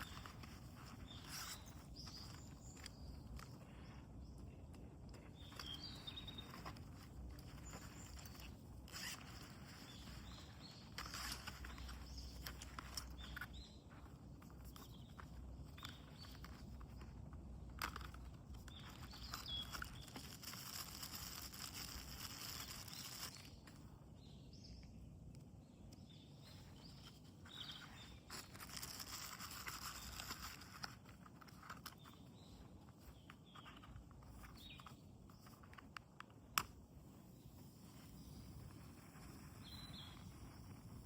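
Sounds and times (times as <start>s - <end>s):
faint bird chirps: 0.0s - 17.2s, 18.1s - 35.8s, 38.0s - 41.0s
soft rustling hiss: 0.0s - 41.0s.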